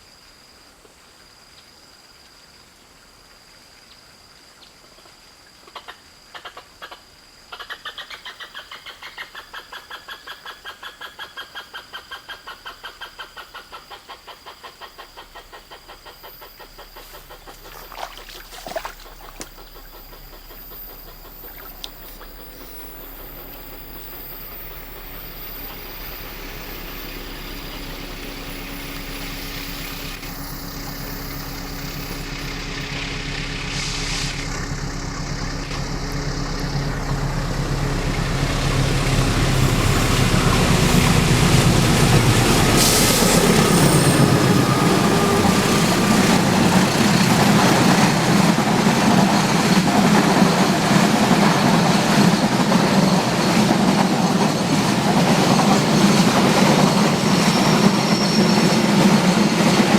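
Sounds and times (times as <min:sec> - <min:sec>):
diesel locomotive engine: 0:06.4 - 0:59.9
train wheels clattering on rails: 0:07.6 - 0:33.9, 0:34.6 - 0:59.9.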